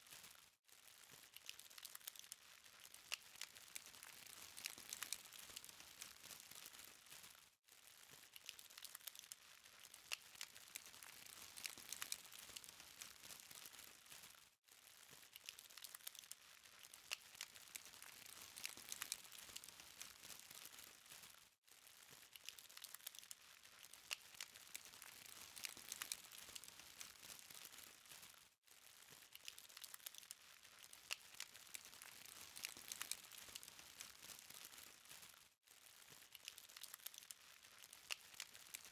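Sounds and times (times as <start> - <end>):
charcoal fire crackling: 0.0 - 38.9.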